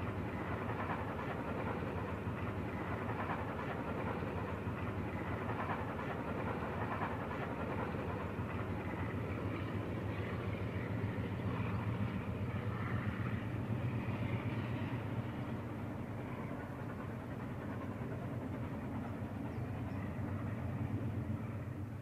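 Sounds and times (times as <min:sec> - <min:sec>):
distant steam train rumble: 0:00.0 - 0:22.0.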